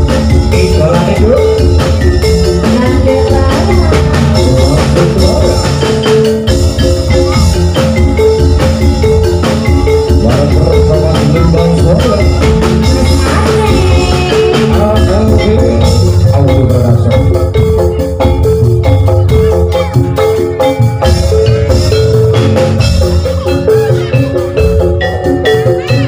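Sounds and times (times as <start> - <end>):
bamboo slit drums melody: 0.0 - 26.0
steady drum beat: 0.0 - 26.0.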